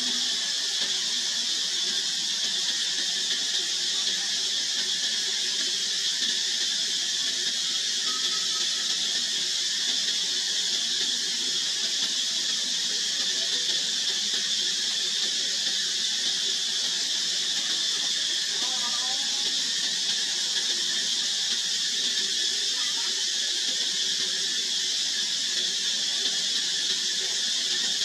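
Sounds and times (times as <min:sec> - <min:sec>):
steady high-pitched hiss: 0:00.0 - 0:28.0.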